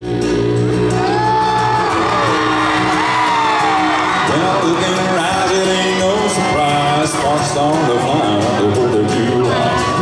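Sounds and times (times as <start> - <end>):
live country band playing: 0.0 - 10.0
crowd whooping and yelling: 0.9 - 10.0.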